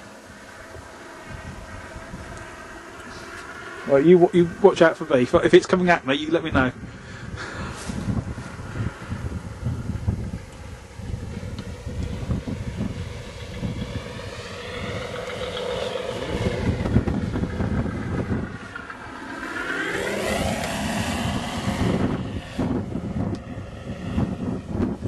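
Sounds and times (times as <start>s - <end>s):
model plane droning past: 0.0s - 25.0s
wind rumbling on microphone: 0.0s - 25.0s.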